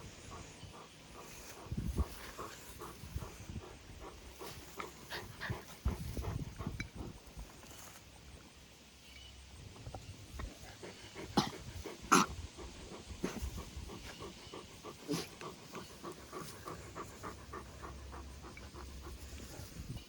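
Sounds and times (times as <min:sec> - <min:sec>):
dog panting: 0:00.0 - 0:07.4, 0:10.4 - 0:20.0.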